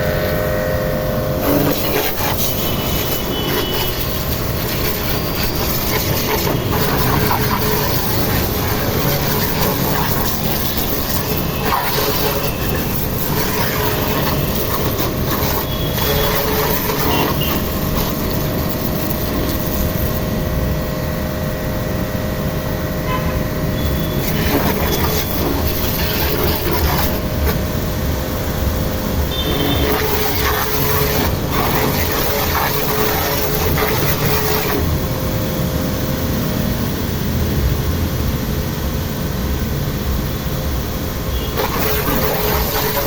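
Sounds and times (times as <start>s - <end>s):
pressure washer running: 0.0s - 36.9s, 40.3s - 43.0s
faint steady whine: 0.0s - 43.0s.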